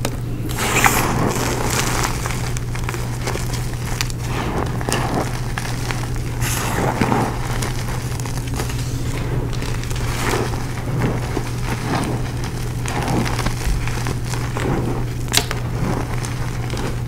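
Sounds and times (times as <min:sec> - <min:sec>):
steady low hum: 0:00.0 - 0:17.0
chalk crunching and crumbling: 0:00.5 - 0:17.0.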